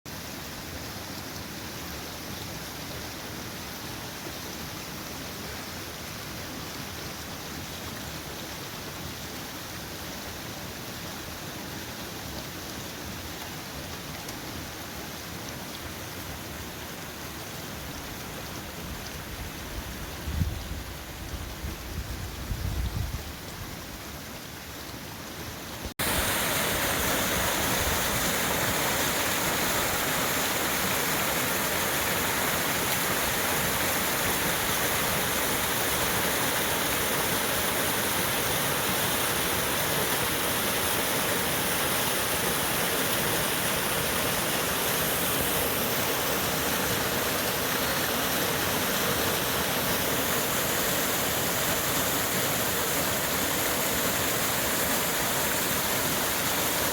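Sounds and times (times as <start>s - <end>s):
rushing water: 0.1s - 56.9s.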